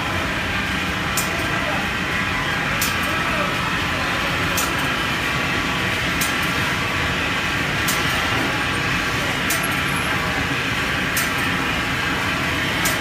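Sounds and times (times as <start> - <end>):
machine whir from blowers and conveyors: 0.0 - 13.0.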